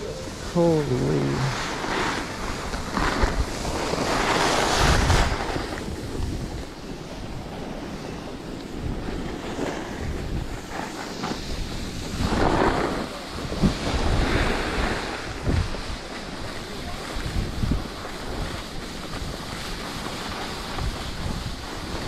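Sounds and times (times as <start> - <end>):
skis hissing over snow: 0.0 - 22.0
wind rushing over microphone: 0.0 - 22.0.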